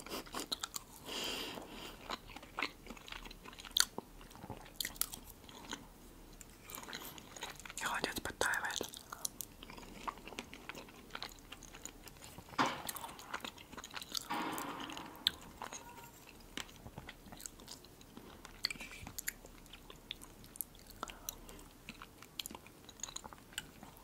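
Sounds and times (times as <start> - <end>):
chewing soft food: 0.0 - 14.3, 16.2 - 24.0.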